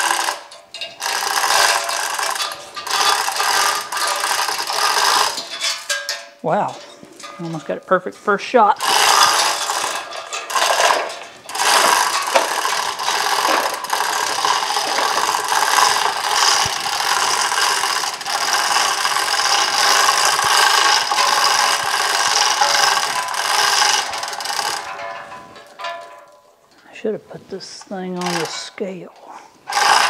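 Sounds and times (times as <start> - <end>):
hoist chain clattering: 0.0 - 27.0, 28.1 - 28.8, 29.7 - 30.0.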